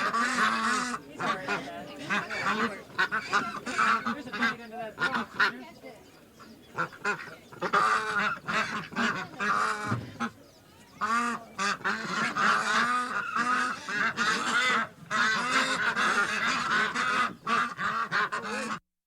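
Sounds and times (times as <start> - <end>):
ducks and geese honking and quacking: 0.0 - 18.8.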